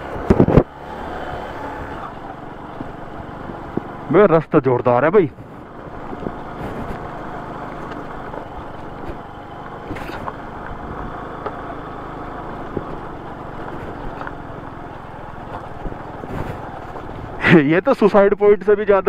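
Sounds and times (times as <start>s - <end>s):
small motorcycle engine running: 0.0s - 17.5s
tyres rolling on loose stones: 2.3s - 17.6s.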